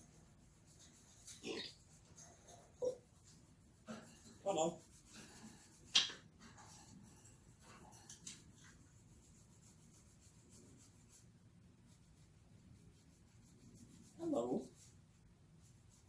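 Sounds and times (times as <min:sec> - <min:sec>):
faint scratching: 0:00.0 - 0:16.0.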